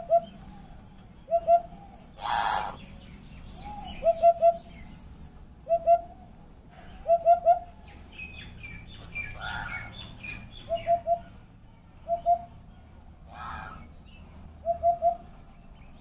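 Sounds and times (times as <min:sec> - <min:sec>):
small birds chirping: 0:00.0 - 0:05.4, 0:06.2 - 0:16.0.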